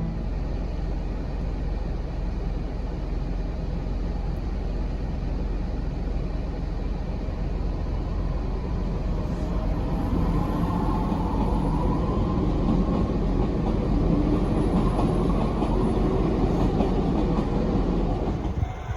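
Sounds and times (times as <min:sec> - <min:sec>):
low outdoor rumble: 0:00.0 - 0:18.9.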